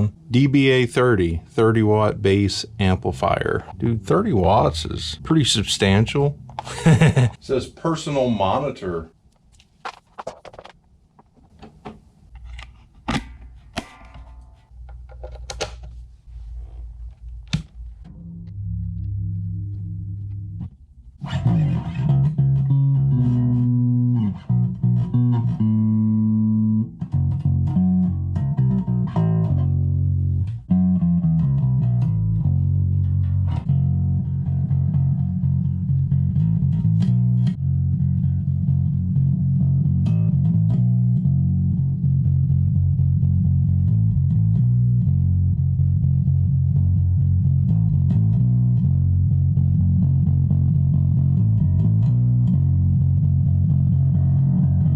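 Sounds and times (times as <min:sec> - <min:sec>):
electric bass guitar playing: 0:00.0 - 0:09.0, 0:13.1 - 0:54.9.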